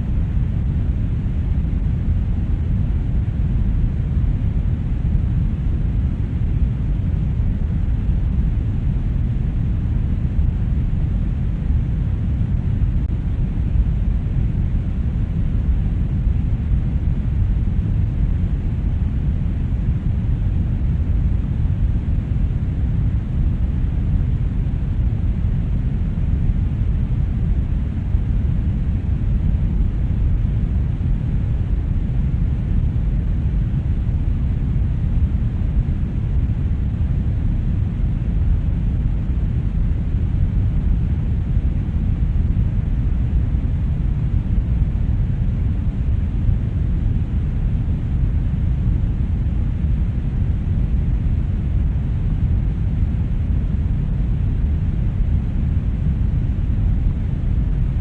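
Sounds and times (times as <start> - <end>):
brown noise rumbling hiss: 0.0 - 58.0.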